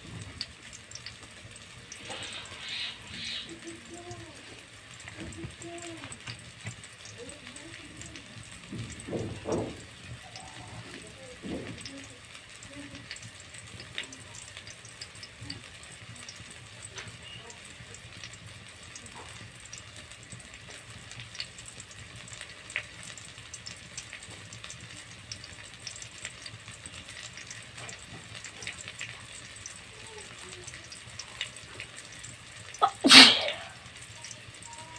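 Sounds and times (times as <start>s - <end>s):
crackles and pops: 0.0s - 34.9s
food sizzling: 0.0s - 34.9s.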